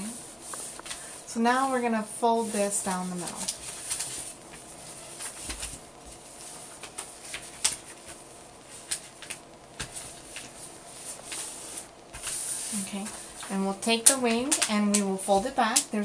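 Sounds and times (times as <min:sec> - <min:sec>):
paper rustling and crinkling: 0:00.0 - 0:01.8, 0:02.4 - 0:16.0.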